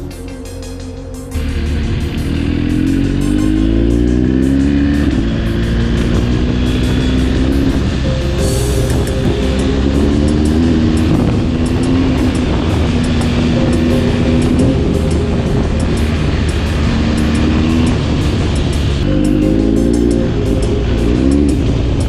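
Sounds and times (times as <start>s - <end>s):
motorcycle exhaust revving: 0.0s - 22.0s.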